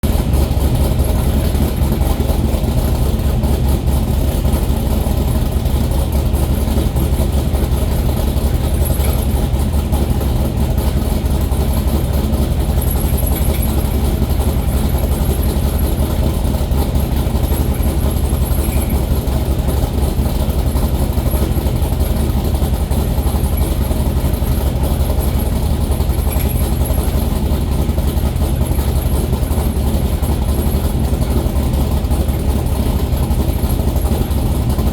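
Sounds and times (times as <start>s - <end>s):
engine idling with rapid rattle: 0.0s - 34.9s.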